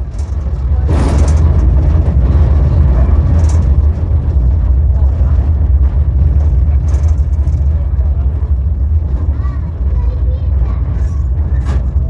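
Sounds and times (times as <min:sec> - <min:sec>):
hissing clatter: 0:00.0 - 0:12.0
low vehicle rumble: 0:00.0 - 0:12.0.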